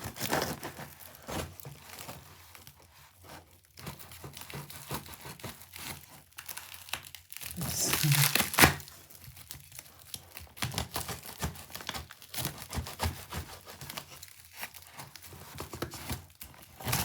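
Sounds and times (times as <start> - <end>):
packing material crinkling and tearing: 0.0 - 3.0, 3.6 - 17.0.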